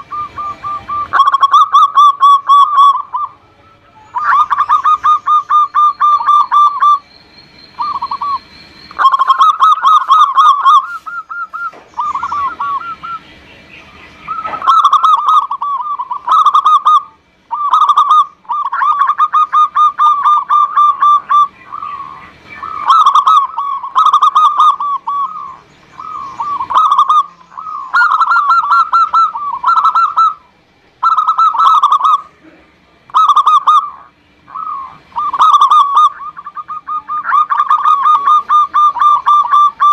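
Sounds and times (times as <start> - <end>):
dove stuttering coos: 0.0 - 7.0, 7.8 - 39.9.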